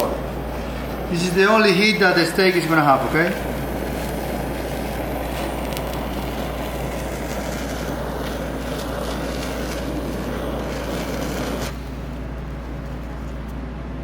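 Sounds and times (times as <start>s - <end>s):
rushing flame with crackles: 0.0s - 14.0s.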